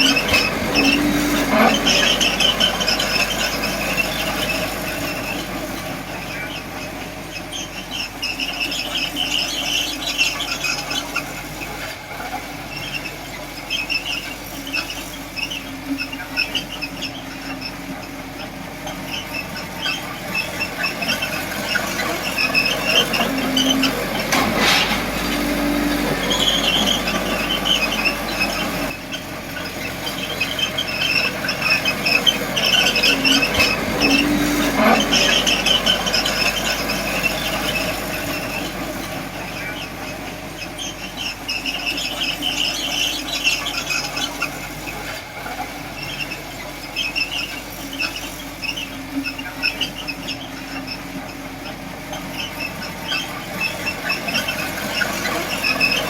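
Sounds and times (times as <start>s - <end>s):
bulldozer engine running: 0.0s - 56.0s
bulldozer tracks squealing: 0.0s - 56.0s.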